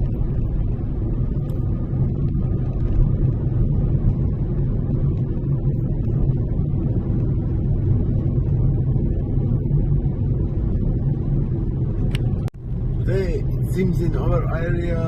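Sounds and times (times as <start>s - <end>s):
car interior road rumble: 0.0s - 15.0s.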